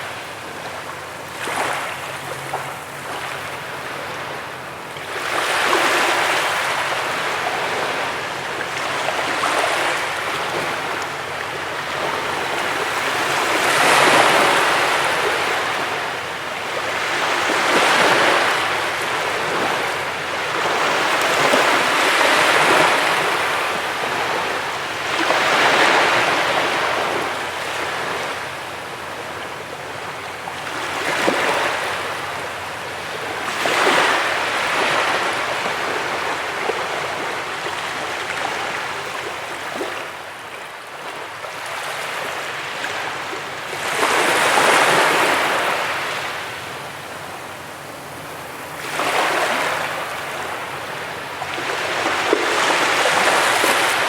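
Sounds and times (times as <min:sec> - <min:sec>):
waves washing onto beach: 0:00.0 - 0:54.0.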